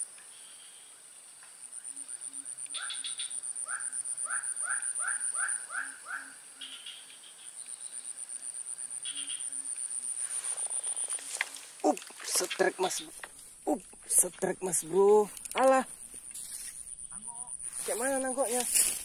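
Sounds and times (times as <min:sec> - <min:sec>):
insect pulsing trill: 0:01.6 - 0:19.0.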